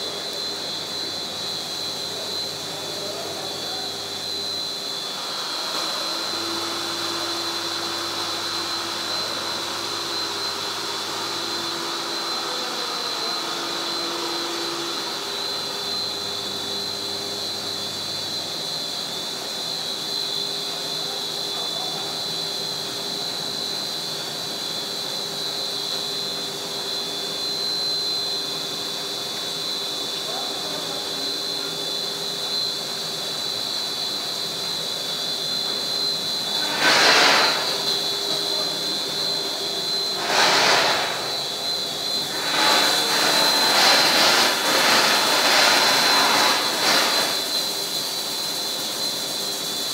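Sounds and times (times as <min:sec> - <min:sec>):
machine whirring with high whine: 0:00.0 - 0:49.9.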